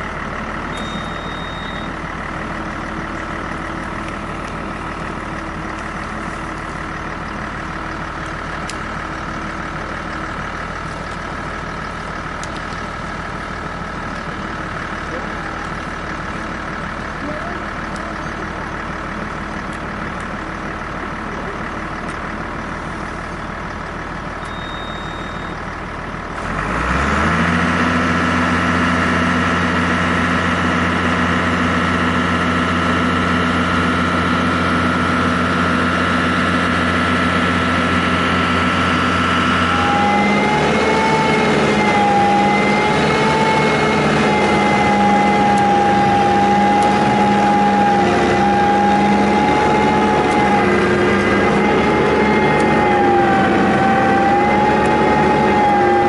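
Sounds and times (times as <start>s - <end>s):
winch whine: 0.0s - 25.8s, 27.2s - 56.0s
diesel engine running: 0.0s - 56.0s.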